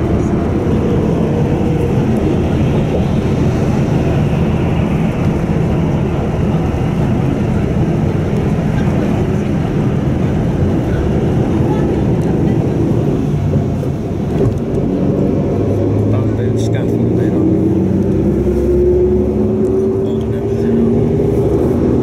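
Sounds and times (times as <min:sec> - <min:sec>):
road and engine noise inside vehicle: 0:00.0 - 0:22.0.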